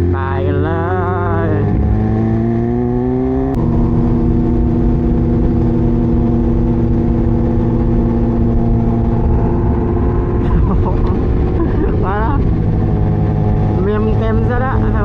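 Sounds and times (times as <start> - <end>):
motorcycle engine revving: 0.0 - 15.0
wind noise: 1.3 - 15.0.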